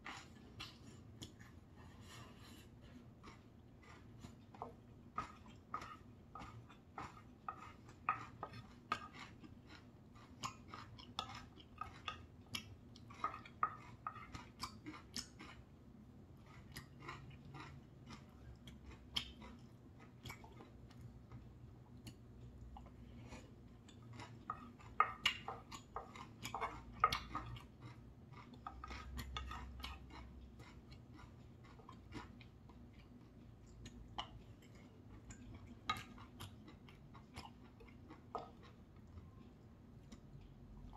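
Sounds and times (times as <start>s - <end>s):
chewing and mouth sounds: 0.0s - 2.0s, 2.8s - 15.8s, 16.4s - 40.9s.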